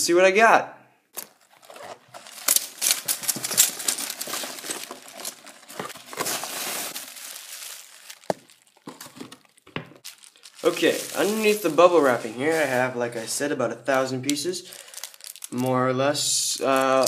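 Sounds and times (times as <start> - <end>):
plastic bags rustling: 1.2 - 15.8, 16.4 - 17.0.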